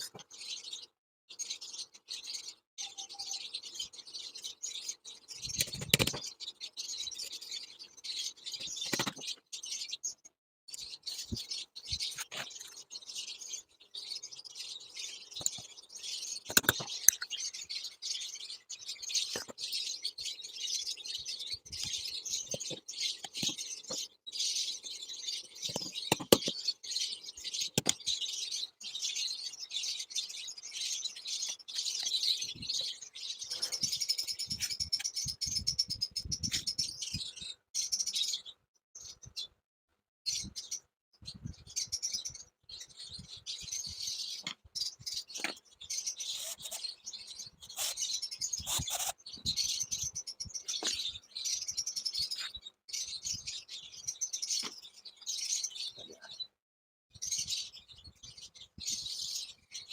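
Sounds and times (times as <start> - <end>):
pet birds chirping and chattering: 0.0 - 39.6, 40.3 - 59.9.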